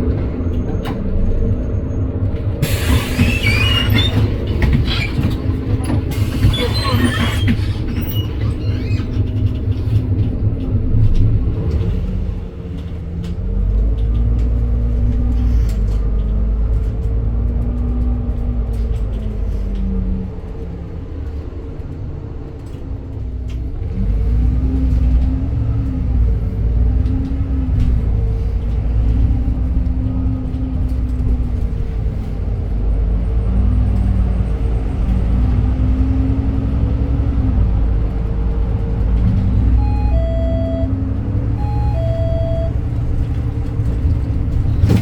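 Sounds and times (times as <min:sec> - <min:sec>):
bus engine whining: 0:00.0 - 0:45.0.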